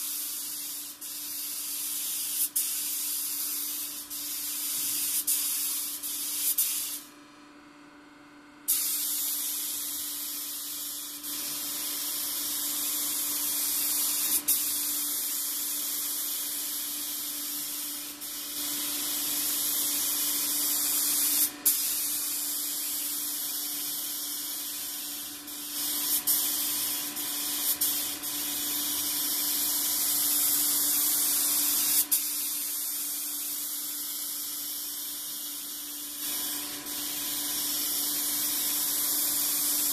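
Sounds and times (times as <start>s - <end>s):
spray gun hissing: 0.0s - 7.0s, 8.7s - 39.9s.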